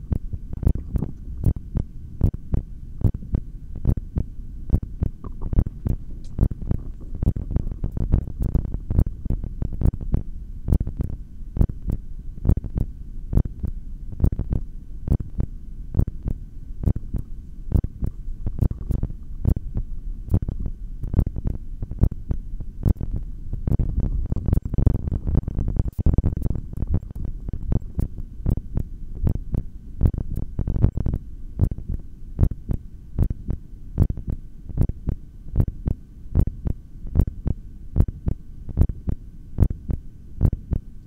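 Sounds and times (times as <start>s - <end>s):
heartbeat through stethoscope: 0.0s - 17.1s, 17.7s - 35.8s, 36.4s - 40.9s
faint hum: 0.0s - 41.0s.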